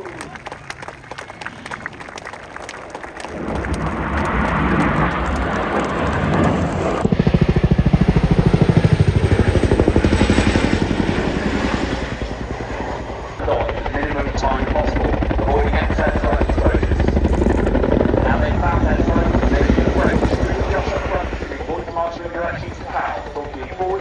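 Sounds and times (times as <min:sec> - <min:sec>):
helicopter rotor blades thudding: 0:03.3 - 0:24.0.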